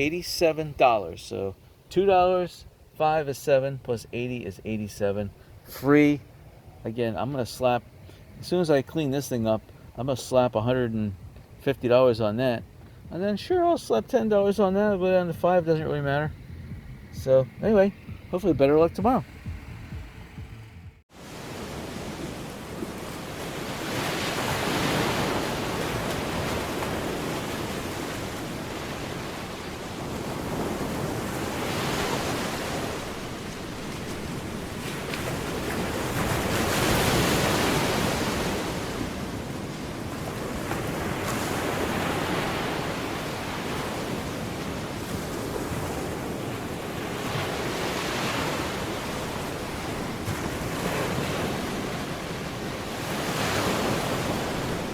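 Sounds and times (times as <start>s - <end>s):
waves breaking: 0.0s - 54.9s.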